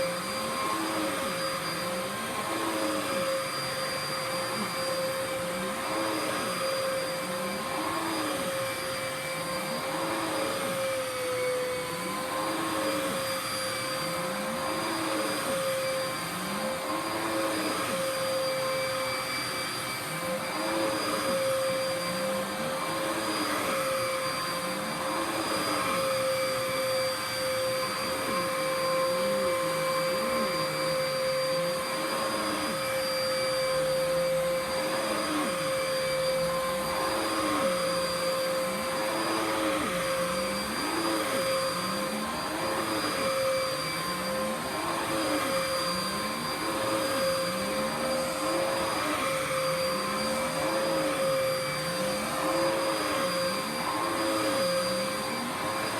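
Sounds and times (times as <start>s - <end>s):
vacuum cleaner whine: 0.0s - 55.9s.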